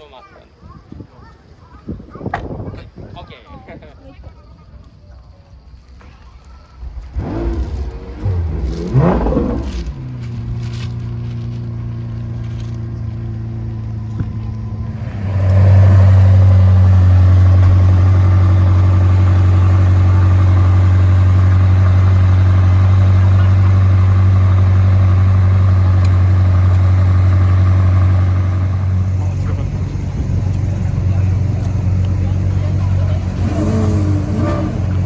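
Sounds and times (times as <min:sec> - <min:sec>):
supercar engine running: 0:06.8 - 0:35.0.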